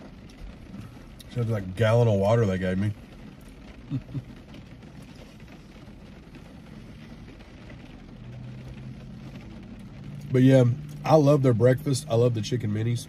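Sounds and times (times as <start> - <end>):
car cabin background noise: 0.0 - 13.0
low steady hum: 0.0 - 13.0.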